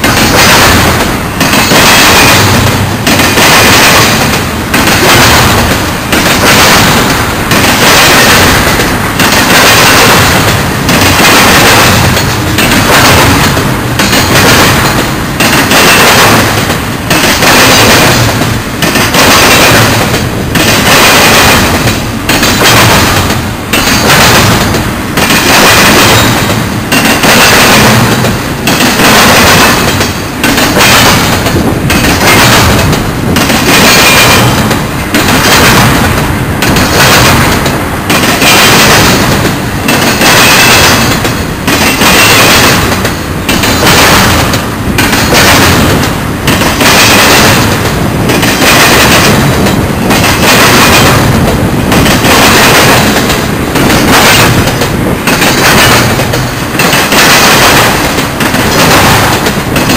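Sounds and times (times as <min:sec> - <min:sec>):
train wheels clattering over crossing: 0:00.0 - 0:59.9.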